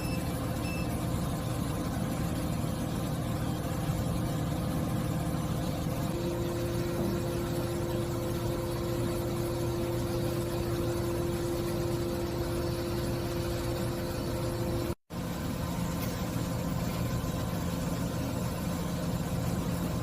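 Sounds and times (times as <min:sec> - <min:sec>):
steady whine: 0:00.0 - 0:20.0.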